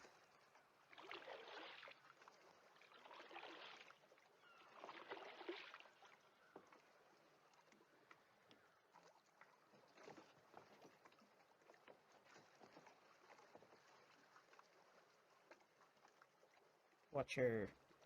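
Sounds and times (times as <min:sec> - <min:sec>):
faint oar strokes in water: 0:00.0 - 0:18.0.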